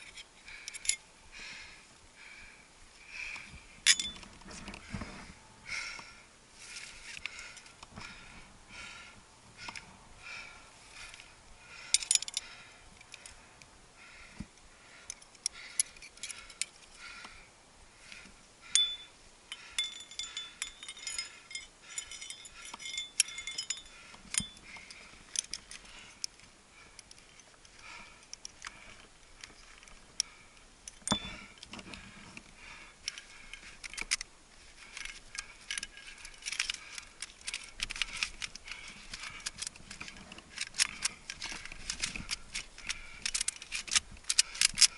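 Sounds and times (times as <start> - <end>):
metal climbing gear clinking: 0.0 - 1.1, 3.1 - 17.4, 18.0 - 44.9.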